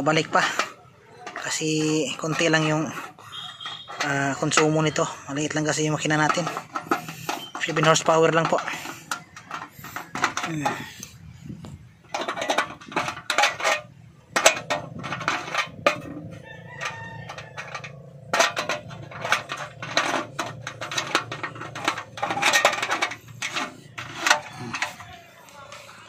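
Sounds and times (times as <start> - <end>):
metallic clinks and knocks: 0.0 - 26.0.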